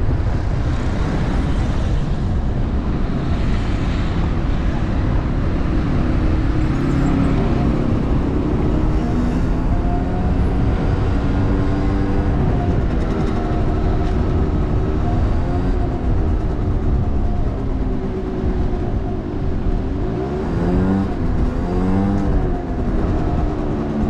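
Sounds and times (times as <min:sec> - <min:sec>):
vehicle engine running: 0:00.0 - 0:24.0
wind rumble on microphone: 0:00.0 - 0:24.0.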